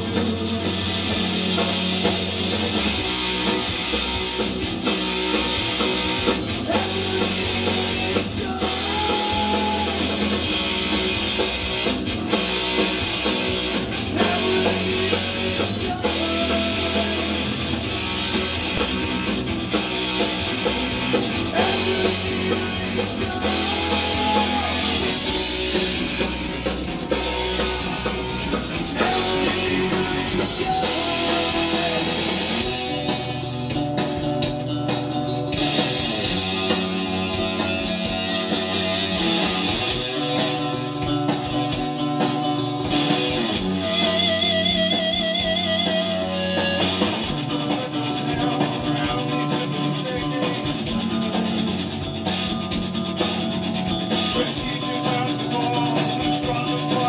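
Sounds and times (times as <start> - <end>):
rock music with guitar: 0.0 - 57.0.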